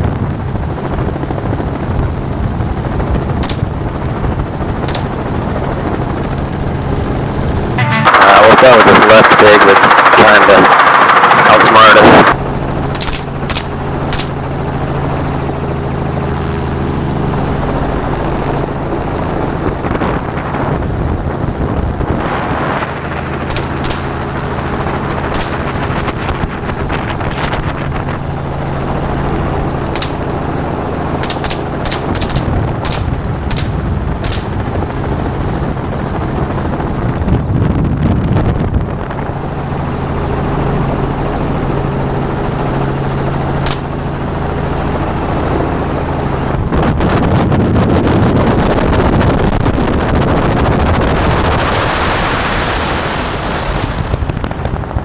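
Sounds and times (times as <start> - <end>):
helicopter rotor and engine droning: 0.0 - 55.0
rushing wind: 0.0 - 55.0.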